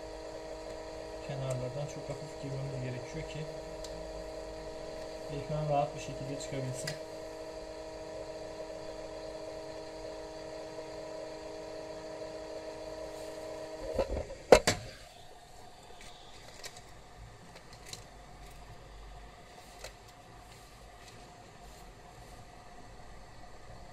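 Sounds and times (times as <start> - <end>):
hot-air gun fan humming: 0.0 - 23.9.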